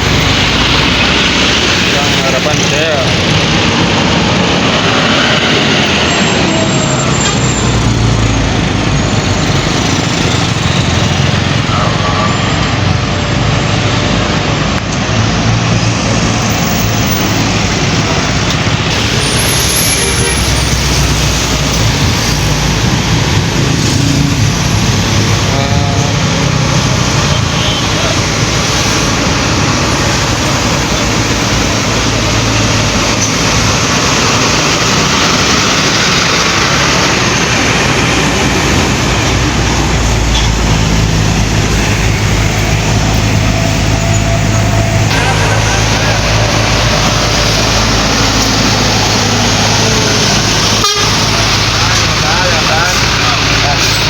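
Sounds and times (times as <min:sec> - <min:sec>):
buses and trucks passing: 0:00.0 - 0:54.0
road noise rush: 0:00.0 - 0:54.0.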